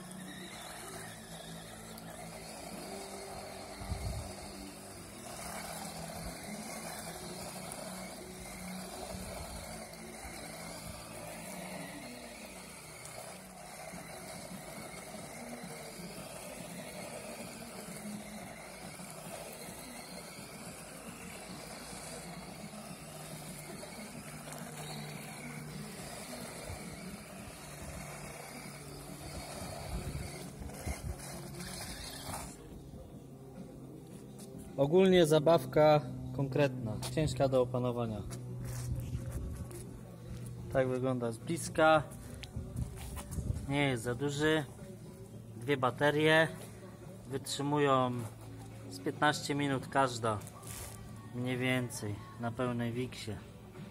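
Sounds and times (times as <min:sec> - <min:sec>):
electric motor whirring: 0:00.0 - 0:53.9.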